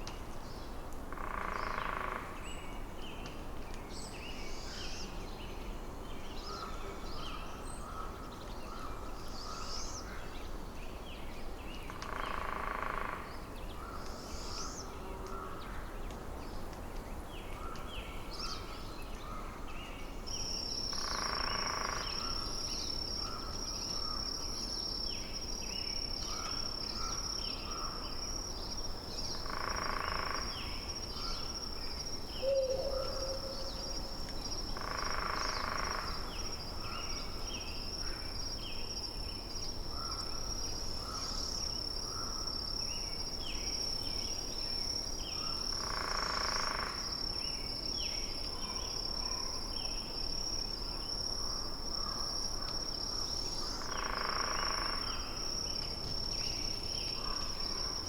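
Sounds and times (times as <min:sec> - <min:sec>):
low background hiss: 0:00.0 - 0:58.0.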